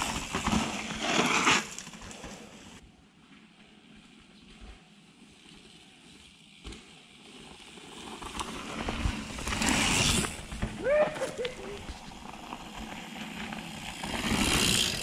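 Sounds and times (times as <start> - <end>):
bike tyres crunching over stones: 0.0 - 2.8, 4.1 - 15.0.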